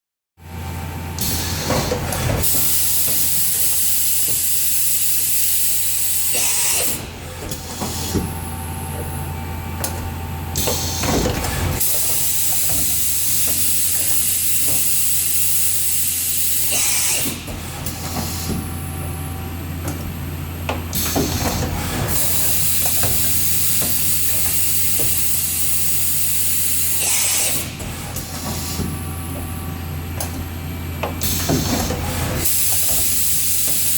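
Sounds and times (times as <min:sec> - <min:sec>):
machining center low hum: 0:00.4 - 0:33.9.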